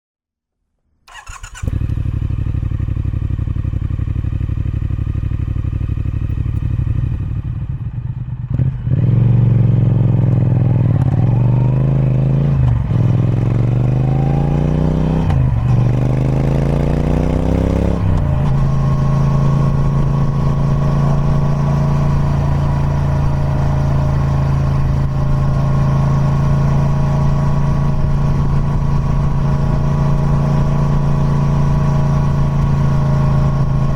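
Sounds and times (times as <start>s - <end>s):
motorcycle engine starting and revving: 1.1s - 33.9s.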